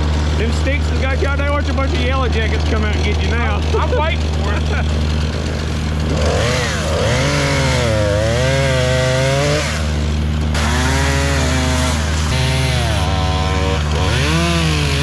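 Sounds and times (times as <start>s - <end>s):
diesel engine drone: 0.0s - 15.0s
brush cutter machine whining: 2.6s - 15.0s.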